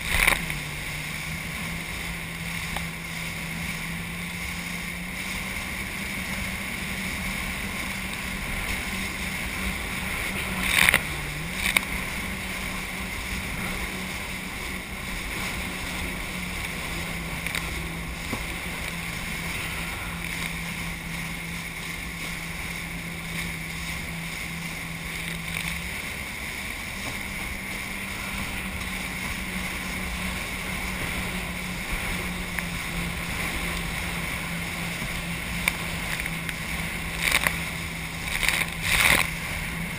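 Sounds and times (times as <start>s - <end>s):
jet ski engine running: 0.0s - 39.9s
rushing water and spray: 0.0s - 39.9s.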